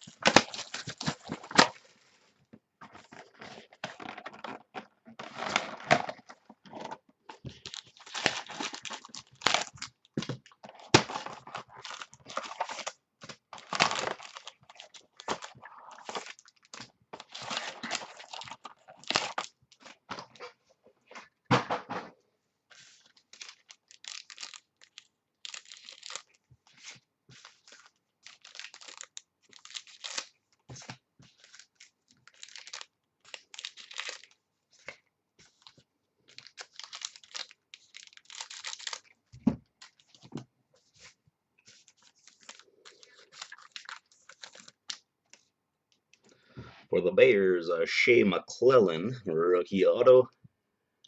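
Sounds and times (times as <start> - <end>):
card packaging crinkling: 0.0 - 1.9, 2.8 - 20.6, 22.7 - 45.5.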